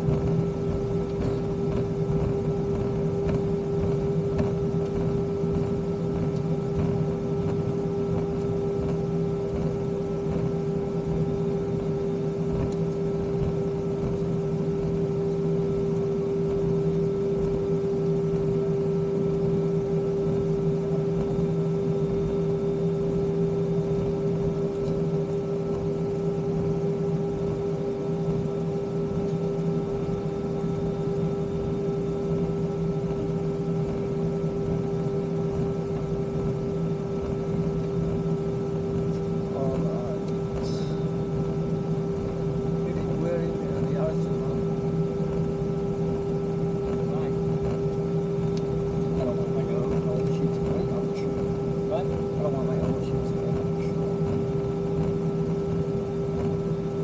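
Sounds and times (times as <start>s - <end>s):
jet engines idling from cabin: 0.0s - 57.0s.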